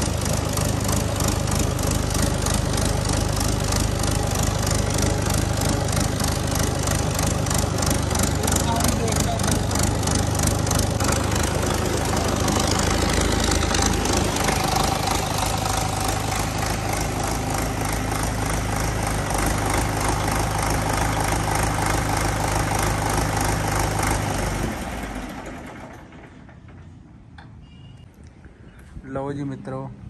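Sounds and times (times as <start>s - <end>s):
tractor diesel engine idling: 0.0s - 27.0s.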